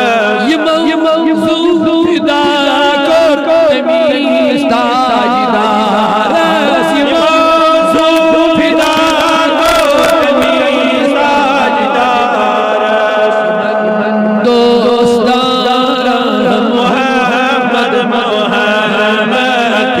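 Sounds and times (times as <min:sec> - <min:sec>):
man chanting: 0:00.0 - 0:20.0.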